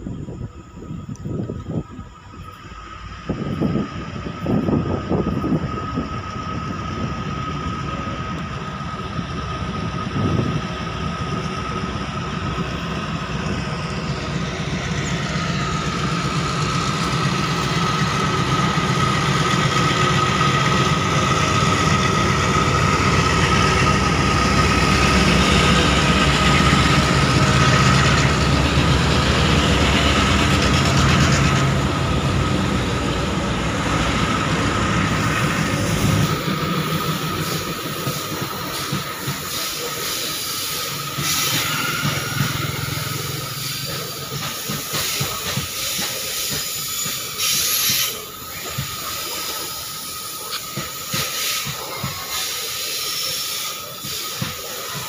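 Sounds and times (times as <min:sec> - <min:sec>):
diesel locomotives rumbling and whining: 0:00.0 - 0:55.0.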